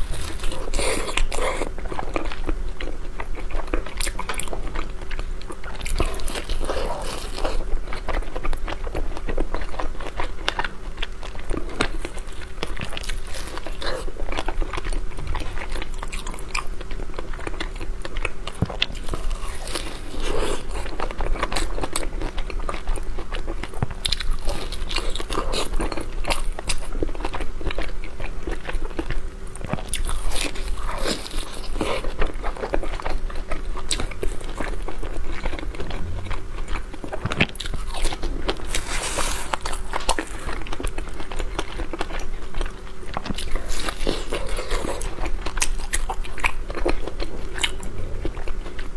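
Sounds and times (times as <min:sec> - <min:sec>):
faint steady hum: 0:00.0 - 0:48.9
person chewing pastry: 0:00.0 - 0:48.9.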